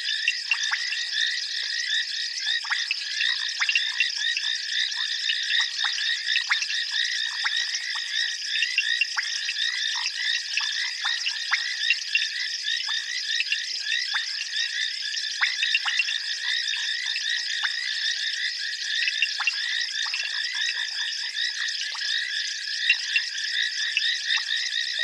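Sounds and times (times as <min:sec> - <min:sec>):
frogs calling: 0:00.0 - 0:25.0.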